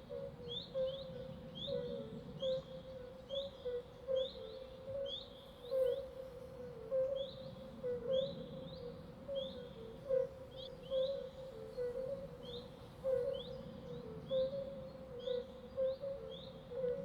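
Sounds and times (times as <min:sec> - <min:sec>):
low continuous note: 0:00.0 - 0:17.0.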